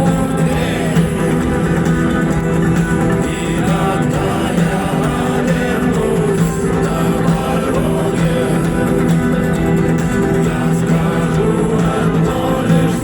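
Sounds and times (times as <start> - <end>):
amplified guitars: 0.0 - 13.0
person singing: 0.0 - 13.0.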